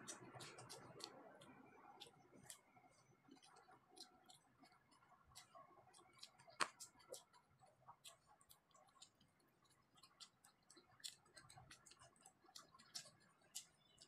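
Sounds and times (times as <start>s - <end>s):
mouth sounds of eating: 0.0s - 14.0s.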